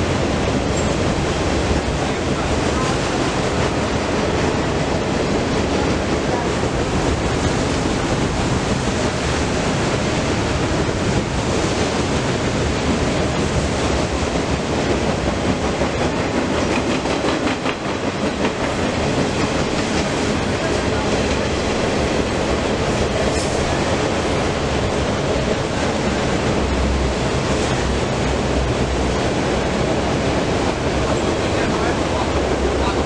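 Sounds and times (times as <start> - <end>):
freight train rumbling by: 0.0 - 33.0.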